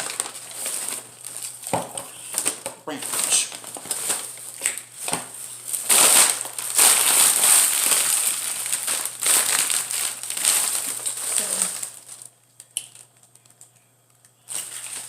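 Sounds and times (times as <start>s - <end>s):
paper bag and wrappers rustling: 0.0s - 13.7s, 14.4s - 15.0s.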